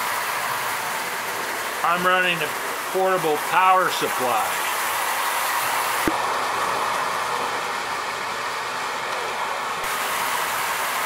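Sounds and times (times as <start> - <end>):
toy trains whirring on track: 0.0 - 11.0.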